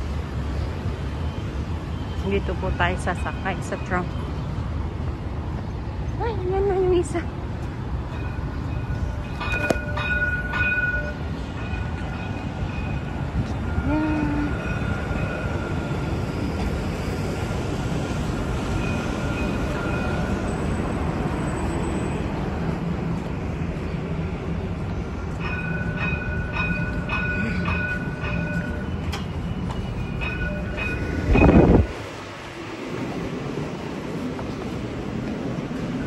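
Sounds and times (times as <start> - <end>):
tram rumbling: 0.0 - 36.0.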